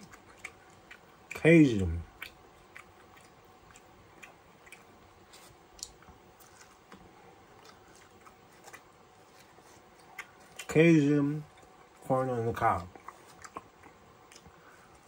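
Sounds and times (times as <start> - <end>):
person chewing corn: 0.0 - 10.8, 12.6 - 15.0.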